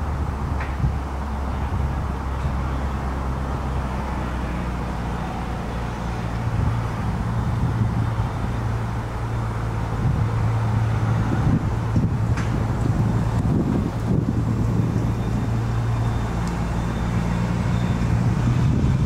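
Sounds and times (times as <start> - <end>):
tyre noise on asphalt: 0.0 - 19.0.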